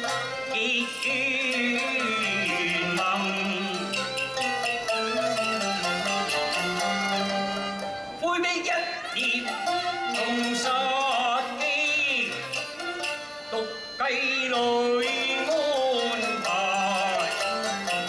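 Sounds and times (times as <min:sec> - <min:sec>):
opera music with vibrato melody: 0:00.0 - 0:18.0.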